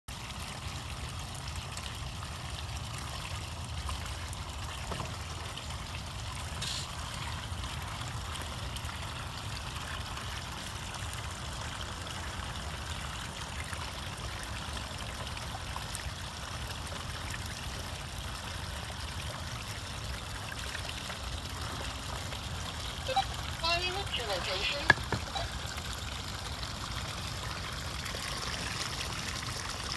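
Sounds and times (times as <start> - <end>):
water trickling: 0.1 - 29.9.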